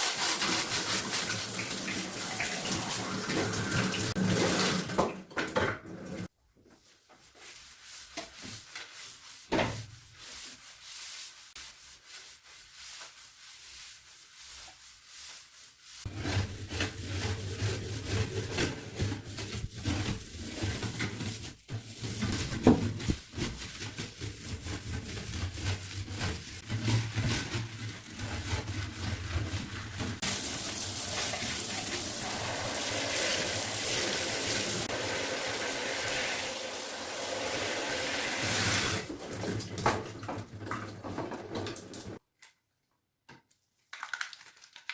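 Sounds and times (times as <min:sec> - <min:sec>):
hand scrubbing bathroom surfaces: 0:00.0 - 0:05.0, 0:05.8 - 0:42.2.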